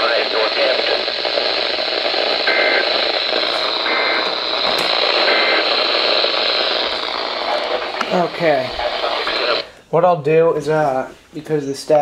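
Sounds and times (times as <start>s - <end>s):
radio static hiss: 0.0s - 9.8s.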